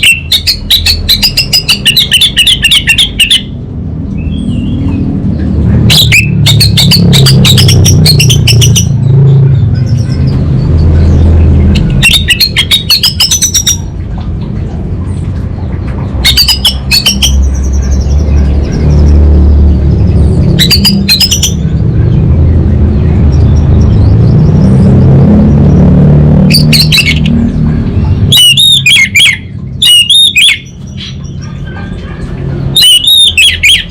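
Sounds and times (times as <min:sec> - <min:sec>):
thrush singing rattling notes: 0:00.0 - 0:33.9.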